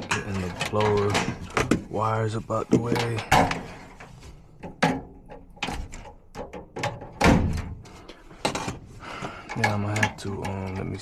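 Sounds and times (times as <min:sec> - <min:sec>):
clunks and knocks: 0:00.0 - 0:11.0.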